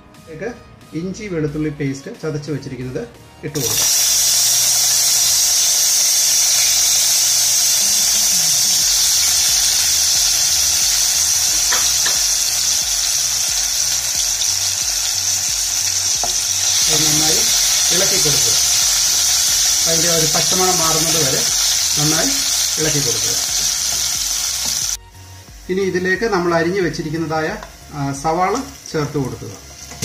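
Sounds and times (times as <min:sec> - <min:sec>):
garlic sizzling in oil: 0:03.6 - 0:30.0.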